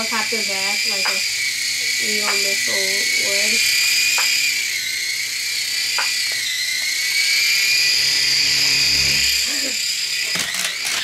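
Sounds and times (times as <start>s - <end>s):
low rotor buzz: 0.0s - 10.6s
toy helicopter motor whine: 0.0s - 11.0s.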